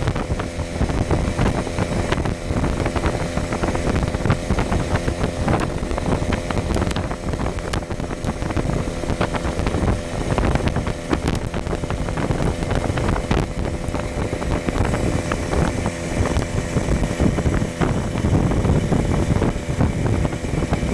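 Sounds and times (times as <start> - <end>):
vehicle engine droning: 0.0 - 20.9
wind buffeting microphone: 0.0 - 20.9.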